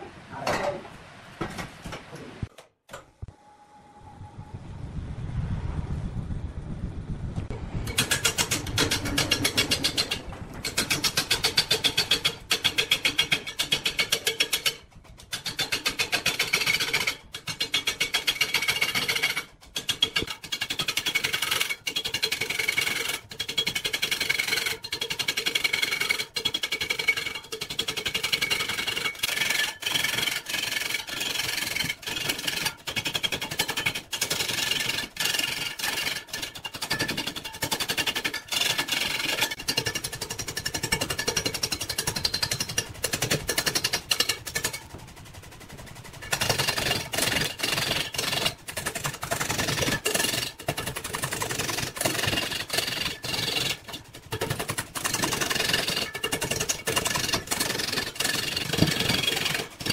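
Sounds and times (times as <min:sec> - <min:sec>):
wood lathe rumble: 0:07.6 - 0:59.9
chisel chattering on spinning wood: 0:07.9 - 0:45.1, 0:45.7 - 0:59.9.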